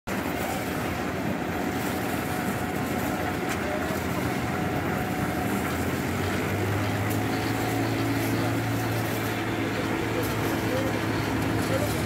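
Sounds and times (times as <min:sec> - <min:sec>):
building site hubbub: 0:00.1 - 0:12.0
concrete mixer humming: 0:00.1 - 0:12.0.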